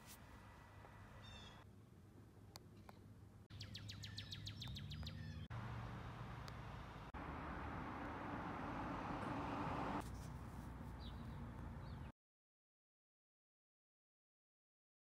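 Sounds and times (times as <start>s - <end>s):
low traffic hum: 0.0s - 12.1s.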